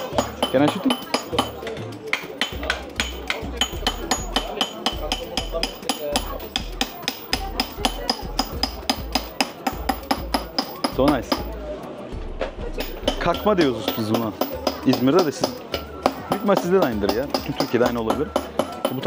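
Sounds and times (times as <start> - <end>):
hammer tapping steel punch: 0.0 - 11.6, 12.8 - 19.0.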